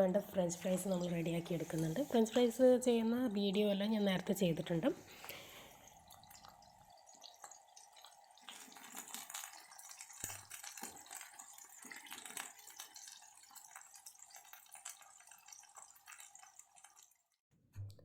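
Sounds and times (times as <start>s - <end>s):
food sizzling in oil: 0.1s - 17.2s.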